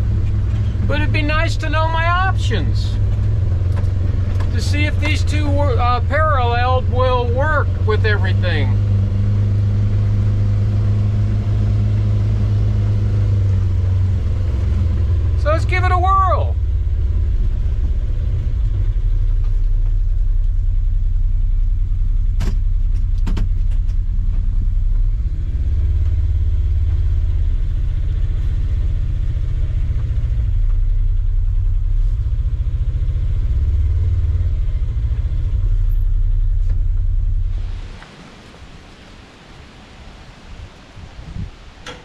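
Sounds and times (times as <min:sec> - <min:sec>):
generator engine humming: 0:00.0 - 0:40.3.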